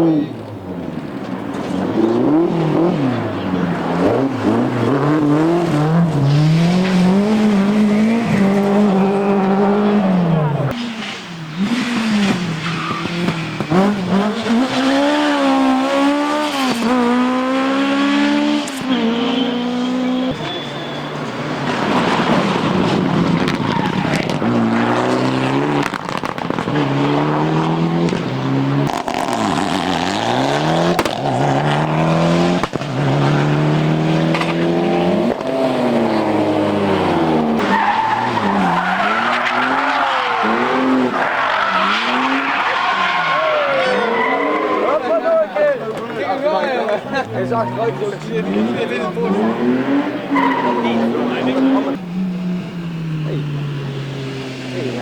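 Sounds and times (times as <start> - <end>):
rally car engine accelerating: 0.0 - 55.0
tyres skidding: 0.0 - 55.0.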